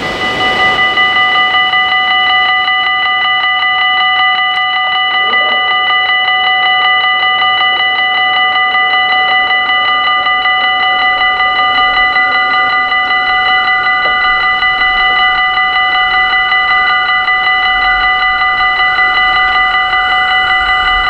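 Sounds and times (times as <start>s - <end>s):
level crossing bell ringing: 0.0s - 21.0s.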